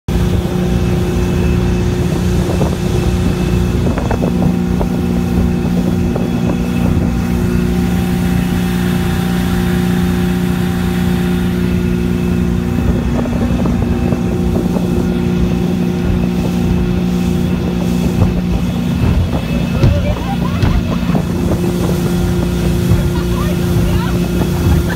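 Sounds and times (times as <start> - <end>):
speedboat engine droning: 0.1 - 24.9
wind and water rushing: 0.1 - 24.9.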